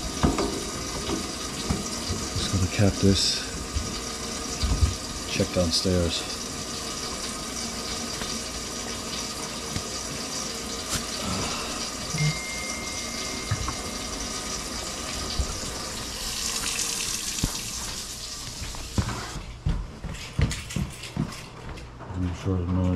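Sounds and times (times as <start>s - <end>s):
tap water running into sink: 0.0s - 19.2s.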